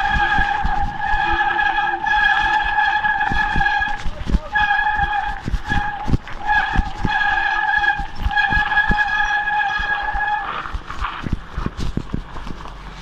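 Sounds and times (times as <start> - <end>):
bike brakes squealing: 0.0 - 10.7
bike rattling over bumps: 0.0 - 13.0.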